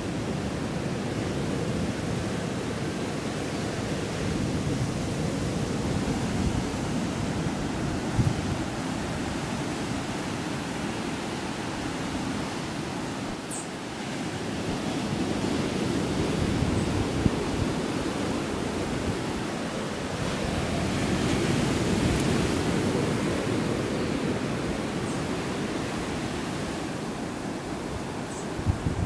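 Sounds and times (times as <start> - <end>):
surf washing onto beach: 0.0 - 29.0.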